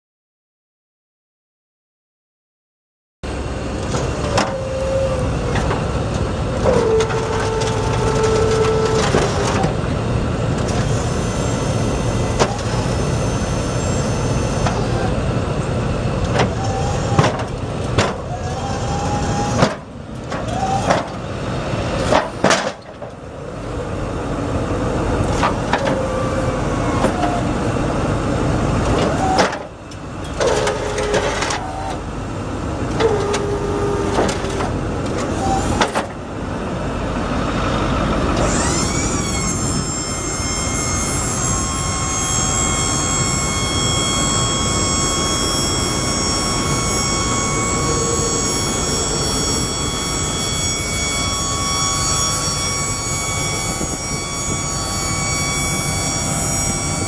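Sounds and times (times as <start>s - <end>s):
hydraulic pump whine: 3.2s - 57.0s
diesel engine idling: 3.3s - 57.0s.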